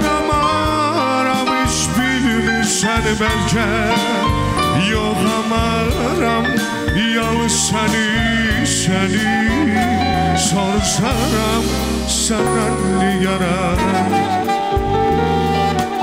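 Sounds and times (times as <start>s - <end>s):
person singing ornamented lines: 0.0s - 14.6s
backing band with bass: 0.0s - 16.0s.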